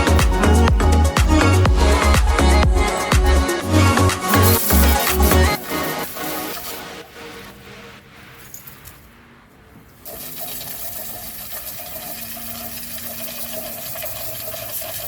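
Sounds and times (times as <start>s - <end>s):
water spray hissing: 0.0s - 8.9s, 10.0s - 15.0s.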